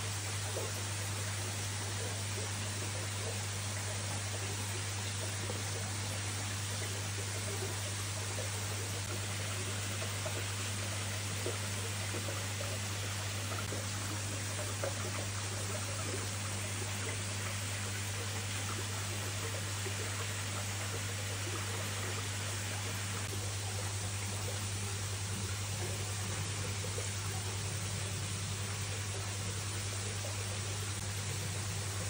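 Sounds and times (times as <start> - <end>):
water trickling and splashing: 0.1 - 32.0.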